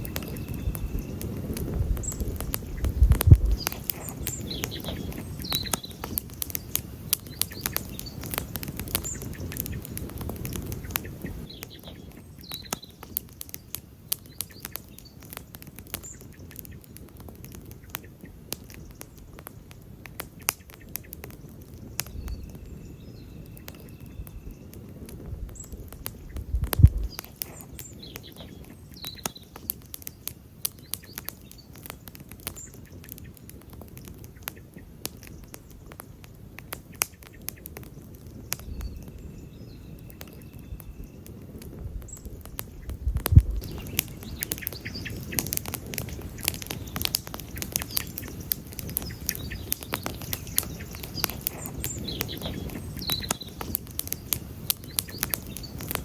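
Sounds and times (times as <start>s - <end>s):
campfire crackling: 0.0s - 56.0s
low rumble of flames: 0.0s - 56.0s.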